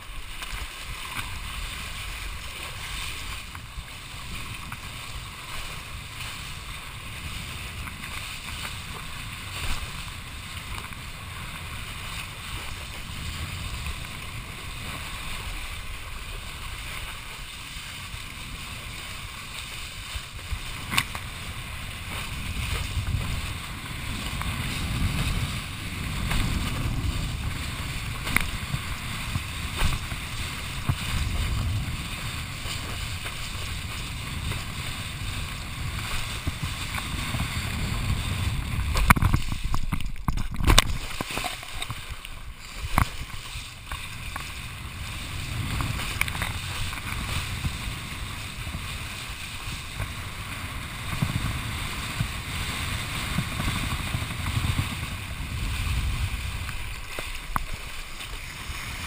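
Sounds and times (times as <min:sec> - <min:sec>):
wind rushing over camera: 0:00.0 - 0:59.0.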